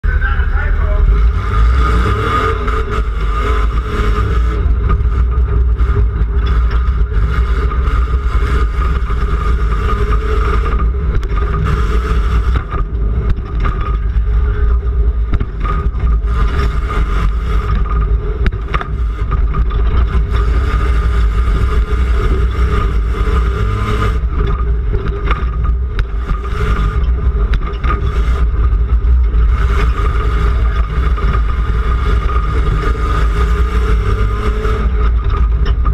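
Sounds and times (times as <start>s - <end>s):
truck engine running hard: 0.0s - 35.9s
truck rattling and knocking: 0.0s - 35.9s.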